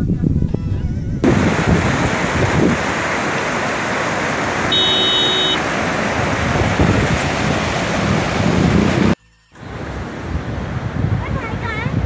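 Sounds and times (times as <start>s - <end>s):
wind rumble on microphone: 0.0s - 4.7s, 5.6s - 12.0s
stream rushing over rocks: 1.2s - 11.0s.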